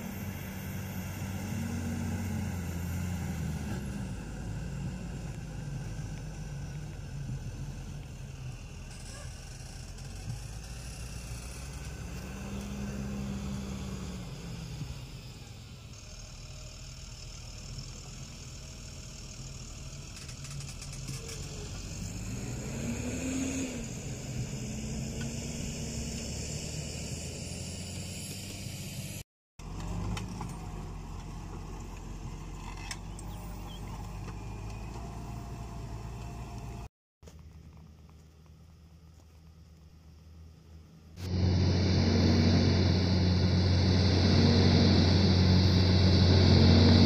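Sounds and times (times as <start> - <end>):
tractor diesel engine under load: 0.0 - 36.9, 41.2 - 47.0.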